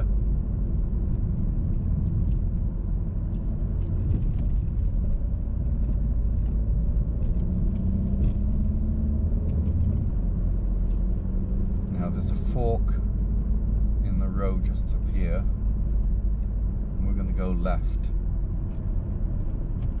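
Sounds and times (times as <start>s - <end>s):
light ticks from road: 0.0s - 12.0s, 12.9s - 14.0s, 15.0s - 17.0s, 17.7s - 20.0s
car engine from inside cabin: 0.0s - 20.0s.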